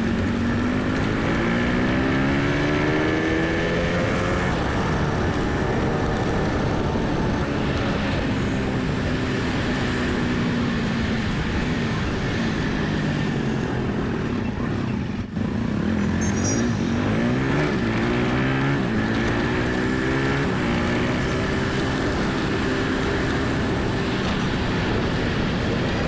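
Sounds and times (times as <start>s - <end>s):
motorcycle engine accelerating: 0.0s - 26.0s
road and wind rush: 0.0s - 26.0s.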